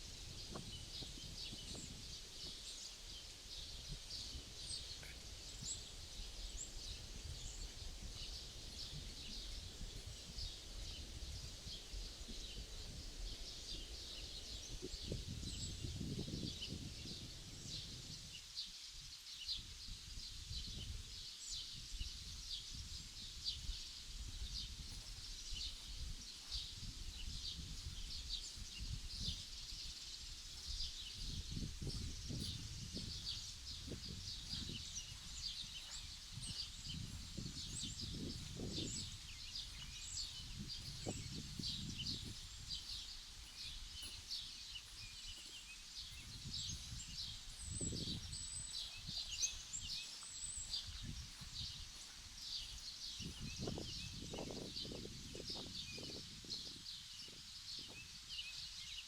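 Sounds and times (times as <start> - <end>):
small birds chirping: 0.0 - 59.0
wind rumble on microphone: 0.0 - 59.0.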